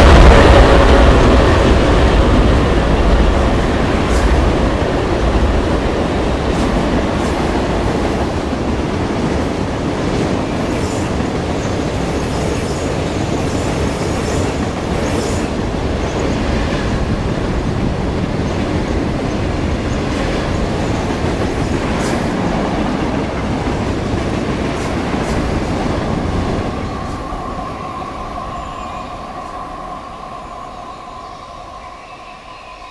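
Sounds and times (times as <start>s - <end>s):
freight train wheels rumbling on rail: 0.0s - 32.9s.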